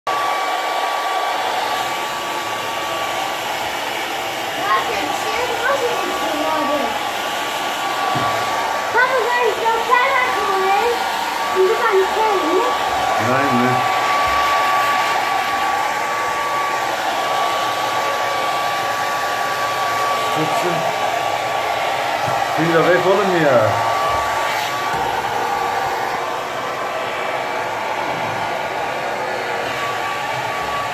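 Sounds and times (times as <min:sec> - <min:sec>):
hair dryer blowing: 0:00.1 - 0:30.9.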